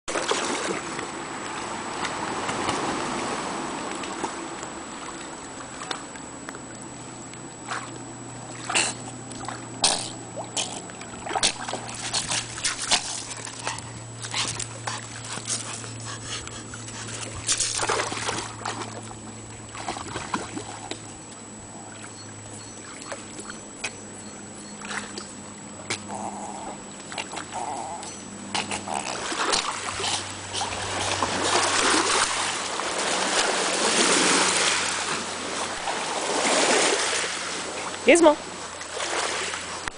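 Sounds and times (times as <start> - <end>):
low steady hum: 0.1 - 39.9.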